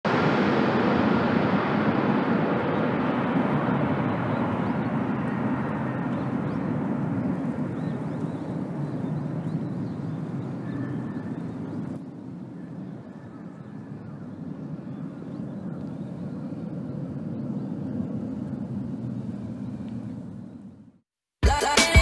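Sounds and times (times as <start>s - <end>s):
jet engine rushing: 0.1s - 20.9s.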